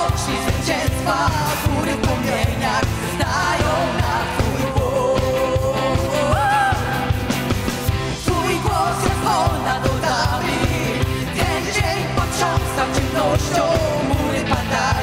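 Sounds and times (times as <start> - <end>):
women singing together: 0.0 - 7.0, 8.2 - 15.0
electric guitar: 0.0 - 15.0
steady drum beat: 0.0 - 15.0.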